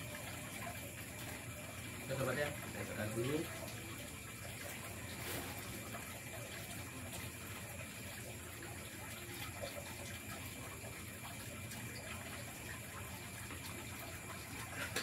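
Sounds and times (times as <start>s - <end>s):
constant rushing hiss: 0.0s - 15.0s
high insect trills: 0.0s - 15.0s.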